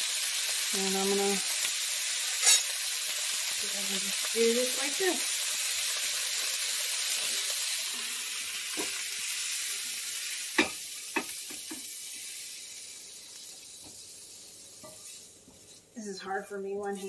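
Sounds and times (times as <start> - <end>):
vegetables sizzling in a wok: 0.0 - 17.0.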